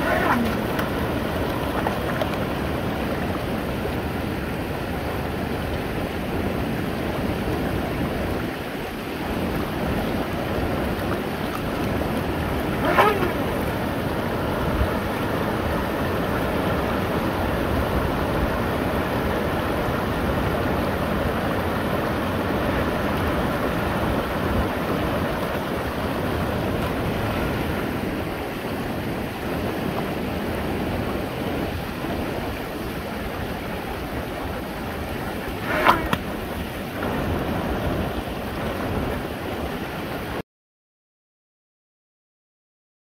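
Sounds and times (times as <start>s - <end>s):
river water rushing over rocks: 0.0s - 40.4s.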